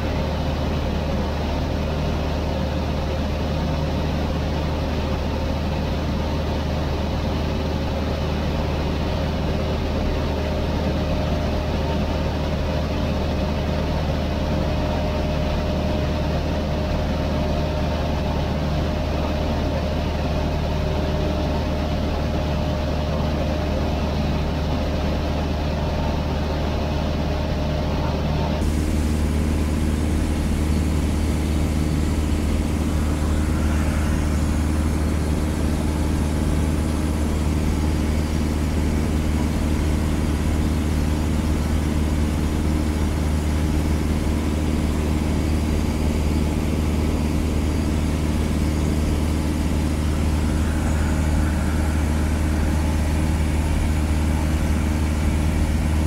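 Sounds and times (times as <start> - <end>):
airplane engine drone in cabin: 0.0 - 56.0.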